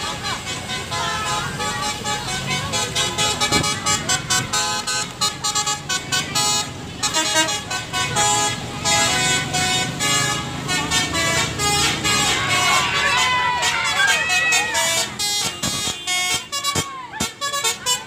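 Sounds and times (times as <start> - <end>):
musical air horn melody: 0.0 - 18.0.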